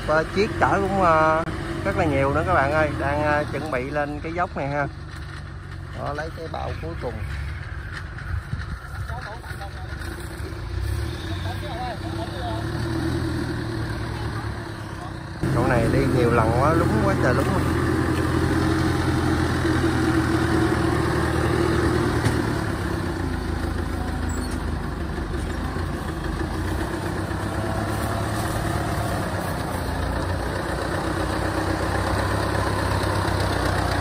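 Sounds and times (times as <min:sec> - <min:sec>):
tracked carrier engine running: 0:00.0 - 0:34.0.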